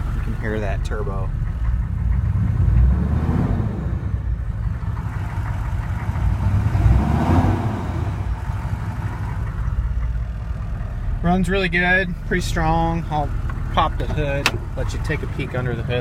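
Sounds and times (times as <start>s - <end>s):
diesel engine revving: 0.0s - 16.0s
turbocharger whining: 0.0s - 16.0s.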